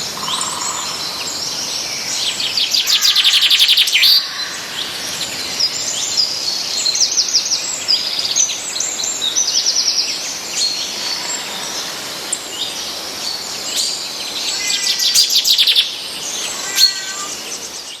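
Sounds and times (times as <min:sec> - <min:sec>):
songbirds chirping and trilling: 0:00.0 - 0:18.0
steady background hiss: 0:00.0 - 0:18.0.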